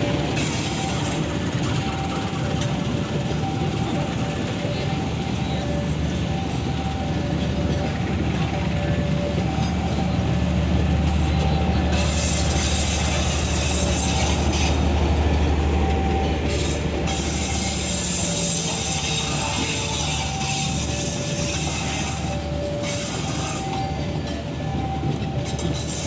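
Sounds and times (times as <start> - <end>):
locomotive engine drone: 0.0 - 26.0
wheel and rail noise: 0.0 - 26.0.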